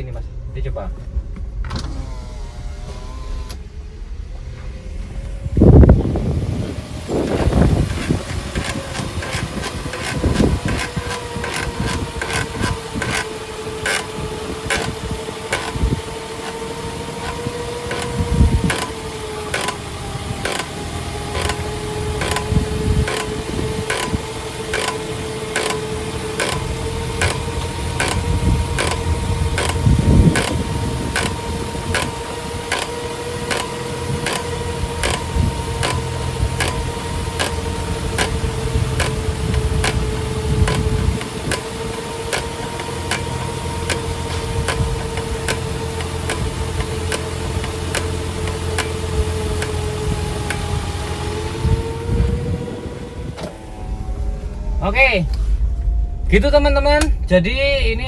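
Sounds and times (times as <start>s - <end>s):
regular ticking: 0.0s - 52.0s
car interior hum: 0.0s - 58.0s.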